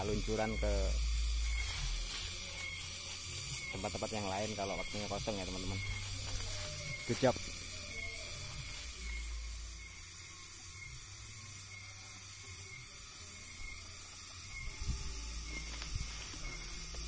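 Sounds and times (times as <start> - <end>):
insects hissing: 0.0 - 17.0.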